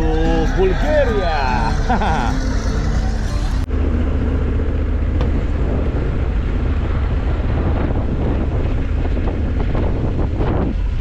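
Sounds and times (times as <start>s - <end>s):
motorcycle engine drone: 0.0s - 11.0s
wind rushing over microphone: 1.9s - 11.0s.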